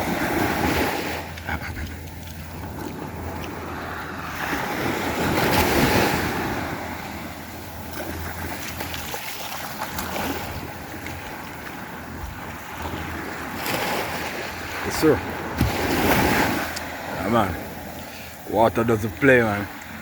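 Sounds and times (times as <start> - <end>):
sea waves breaking: 0.0 - 20.0
wind rumbling on microphone: 0.0 - 20.0.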